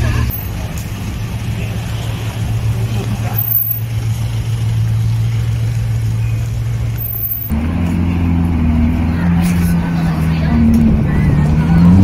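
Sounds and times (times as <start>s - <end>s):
car engine idling: 0.0s - 12.0s
lower-pitched car engine idling: 0.0s - 12.0s.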